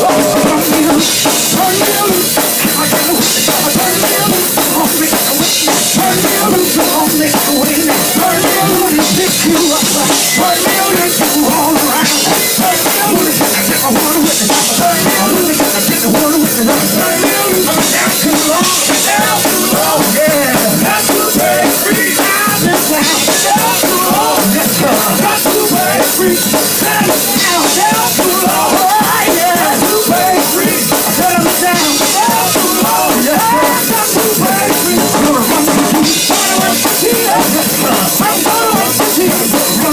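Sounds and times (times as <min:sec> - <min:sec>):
band with drum kit: 0:00.0 - 0:39.9
men singing gospel: 0:00.0 - 0:39.9.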